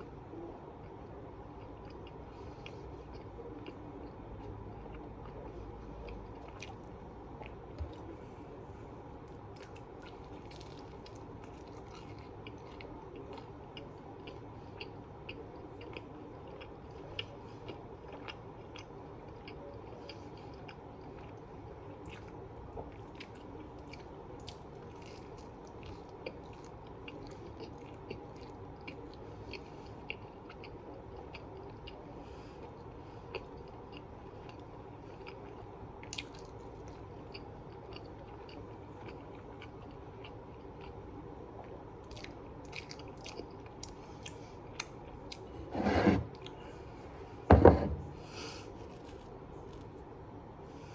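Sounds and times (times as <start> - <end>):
person chewing food: 1.6 - 3.8, 4.4 - 8.4, 9.2 - 21.4, 22.0 - 32.0, 33.3 - 41.0, 41.6 - 46.9, 47.9 - 50.0.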